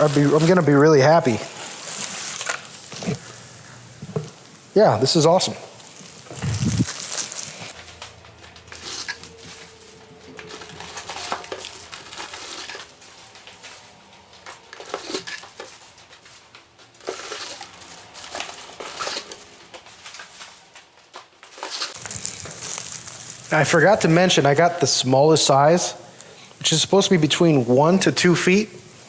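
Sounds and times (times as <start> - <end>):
rustling: 0.0 - 29.0.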